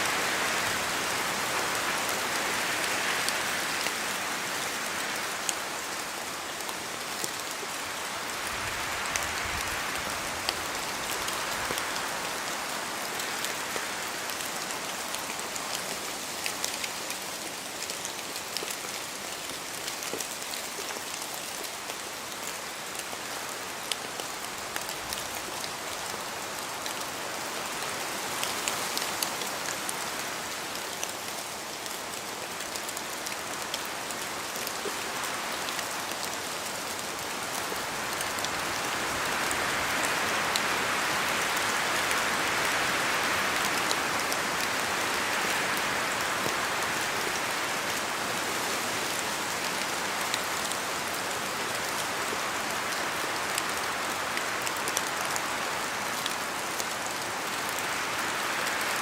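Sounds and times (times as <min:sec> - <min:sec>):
rain patter in forest: 0:00.0 - 0:59.0
wind gusting through trees: 0:00.0 - 0:59.0.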